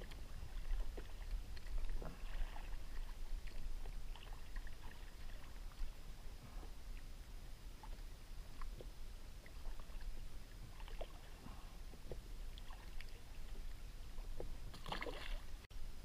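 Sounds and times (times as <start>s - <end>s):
waves lapping against plastic hull: 0.0s - 15.7s
steady low rumble: 0.0s - 16.0s.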